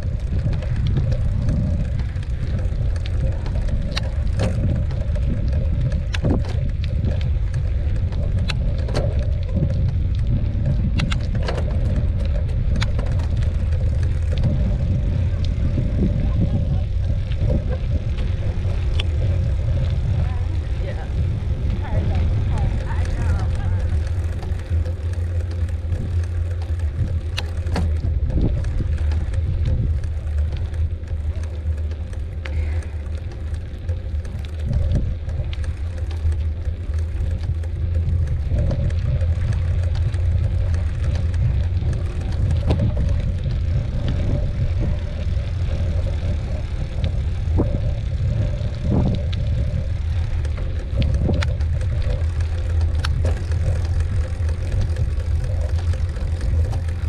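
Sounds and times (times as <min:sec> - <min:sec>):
bike clicks and knocks: 0:00.0 - 0:57.0
bike tyres on dirt: 0:00.0 - 0:57.0
wind on microphone: 0:00.0 - 0:57.0.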